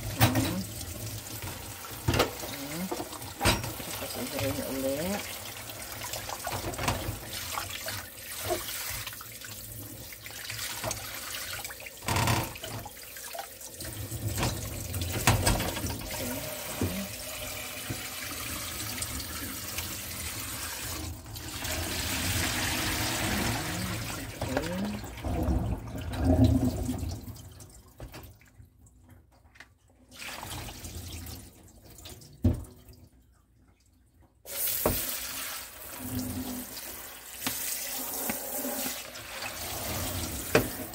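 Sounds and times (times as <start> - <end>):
tap water running into sink: 0.0 - 33.1, 34.2 - 40.9.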